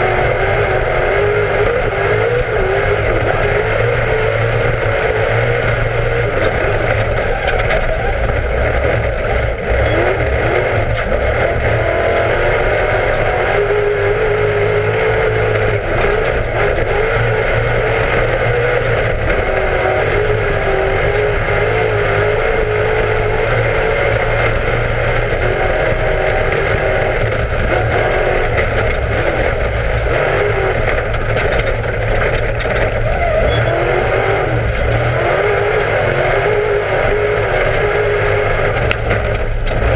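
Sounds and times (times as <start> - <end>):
race car engine revving: 0.0 - 39.9
steady rushing noise: 0.0 - 39.9.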